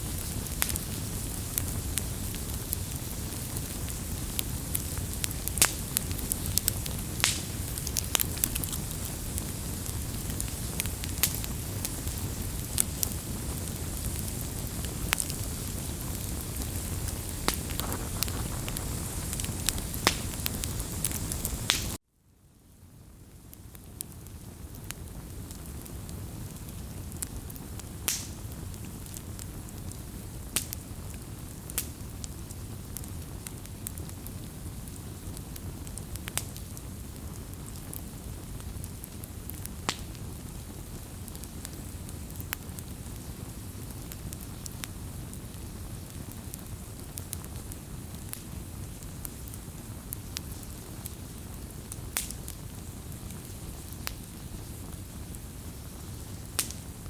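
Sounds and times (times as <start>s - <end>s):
fire hissing: 0.0s - 22.0s, 24.3s - 57.0s
wood fire crackling and popping: 0.0s - 22.0s, 23.6s - 57.0s.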